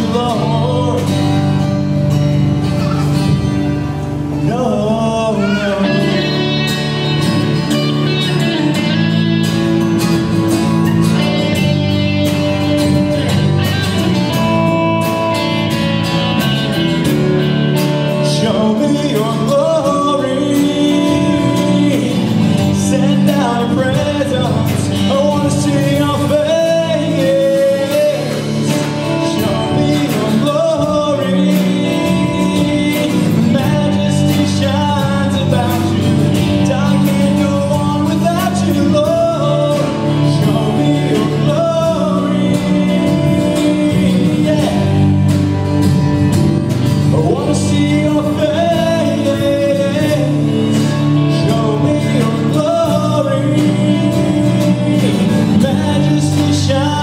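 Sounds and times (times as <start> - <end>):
acoustic guitar strumming: 0.0 - 57.0
man singing: 0.0 - 57.0.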